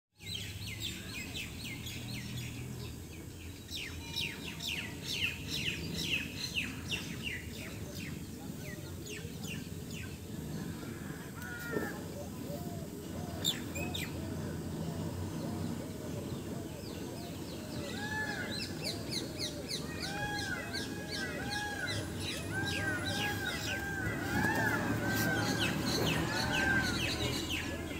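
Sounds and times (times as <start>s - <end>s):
small birds chirping: 0.2s - 27.9s.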